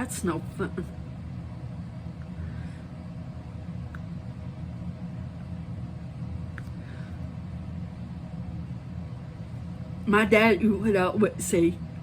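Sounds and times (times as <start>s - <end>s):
low room rumble and hum: 0.0s - 12.0s.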